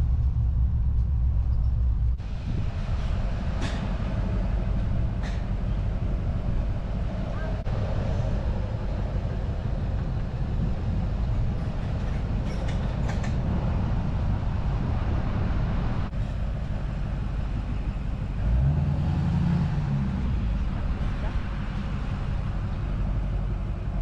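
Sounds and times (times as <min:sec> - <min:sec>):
car road noise: 0:00.0 - 0:24.0
wind rumble on microphone: 0:00.0 - 0:24.0.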